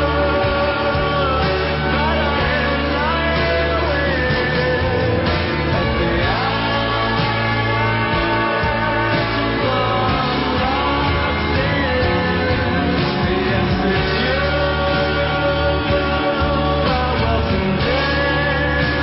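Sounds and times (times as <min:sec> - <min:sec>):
person singing: 0:00.0 - 0:19.0
rock band with guitar: 0:00.0 - 0:19.0.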